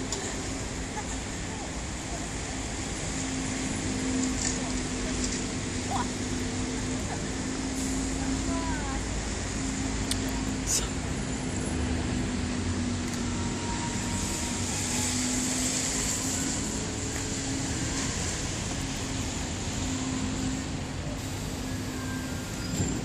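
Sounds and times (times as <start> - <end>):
low engine drone: 0.0 - 22.8
city street traffic hum: 0.0 - 23.0.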